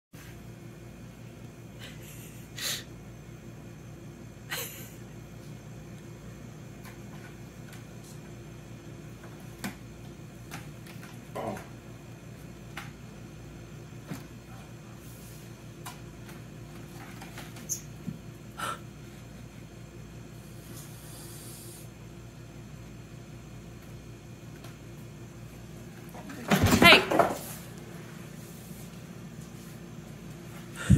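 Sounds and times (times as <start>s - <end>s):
low room hum: 0.2s - 30.9s.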